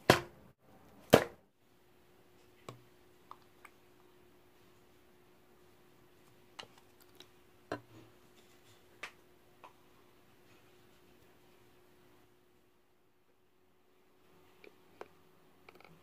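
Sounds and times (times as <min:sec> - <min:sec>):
faint steady hum: 0:00.6 - 0:16.0.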